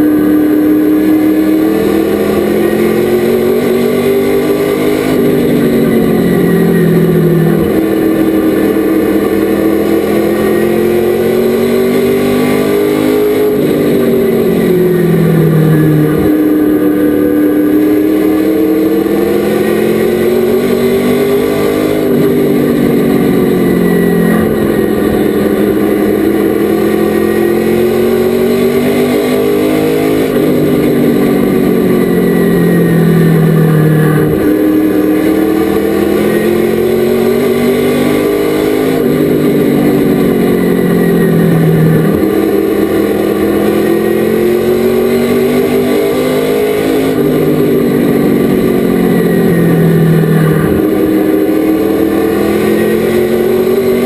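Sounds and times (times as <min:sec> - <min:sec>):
race truck engine accelerating: 0:00.0 - 0:54.0.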